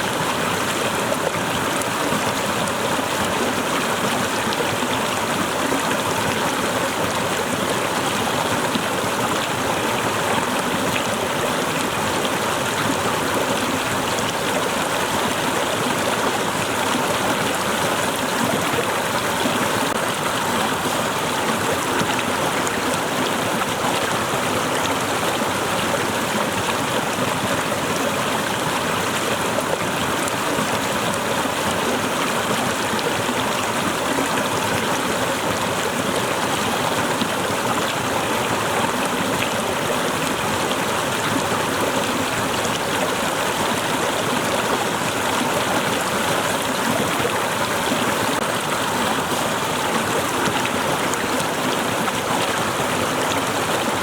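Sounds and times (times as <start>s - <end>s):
small waterfall splashing: 0.0s - 54.0s.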